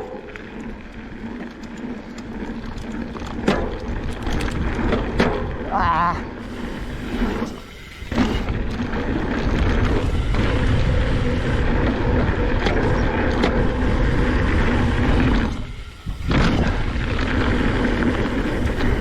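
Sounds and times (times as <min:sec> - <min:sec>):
bike clicks and knocks: 0:00.0 - 0:05.7, 0:07.2 - 0:19.0
tyres rumbling on dirt: 0:00.0 - 0:19.0
wind buffeting: 0:00.0 - 0:19.0.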